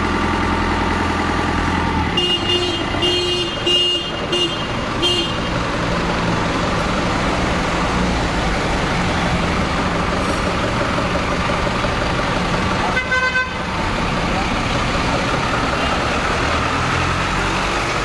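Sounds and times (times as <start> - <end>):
forklift engine running: 0.0 - 18.0.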